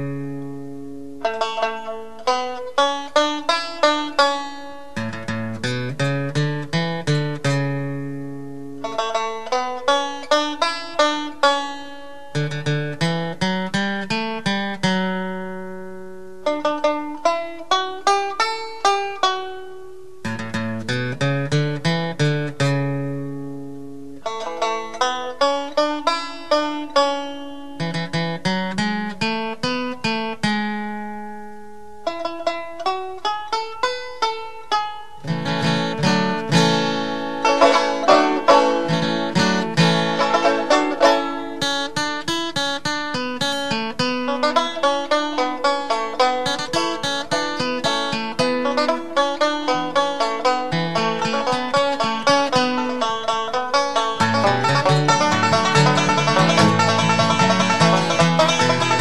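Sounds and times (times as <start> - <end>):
plucked string melody: 0.0 - 59.0.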